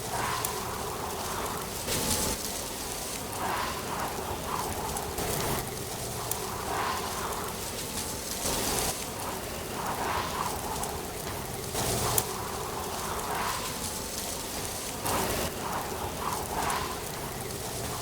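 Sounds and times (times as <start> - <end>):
wind and rustling leaves: 0.0 - 18.0.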